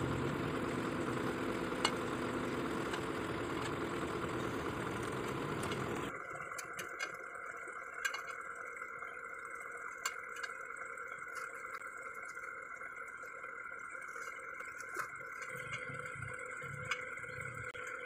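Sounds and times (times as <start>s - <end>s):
faint whine: 0.0s - 18.0s.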